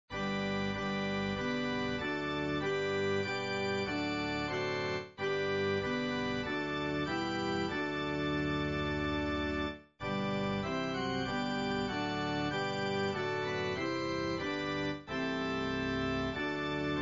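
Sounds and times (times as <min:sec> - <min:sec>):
organ chords: 0:00.1 - 0:17.0.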